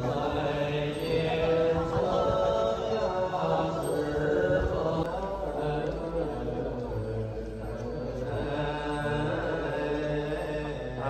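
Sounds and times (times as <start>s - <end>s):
long held sung notes: 0.0s - 11.0s.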